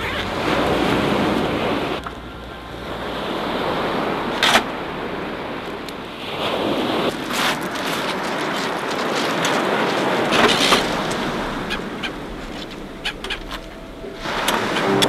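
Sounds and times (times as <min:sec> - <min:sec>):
surf on a shingle beach: 0:00.0 - 0:15.0.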